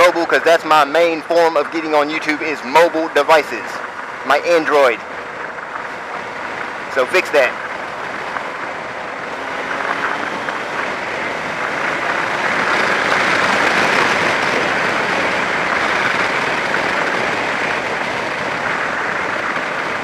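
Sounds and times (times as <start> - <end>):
motorcycle engine: 2.3 - 20.0.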